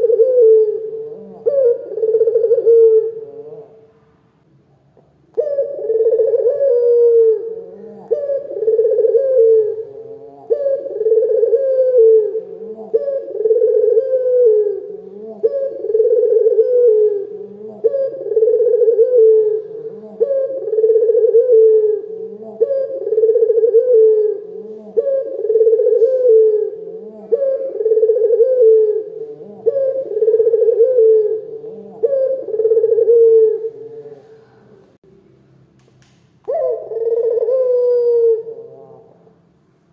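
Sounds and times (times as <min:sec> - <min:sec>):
dove cooing: 0:00.0 - 0:03.9, 0:05.0 - 0:34.8, 0:36.5 - 0:39.4.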